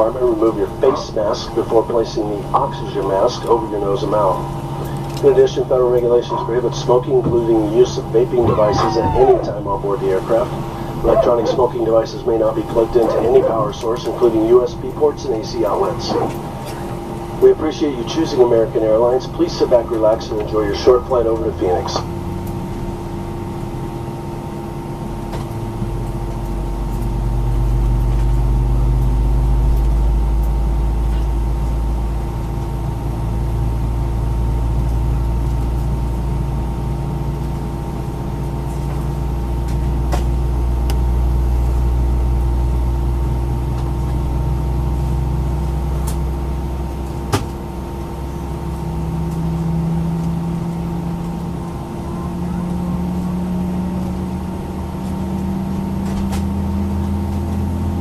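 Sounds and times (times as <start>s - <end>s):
cabin hum and whine: 0.0s - 58.0s
low rumble: 0.0s - 58.0s.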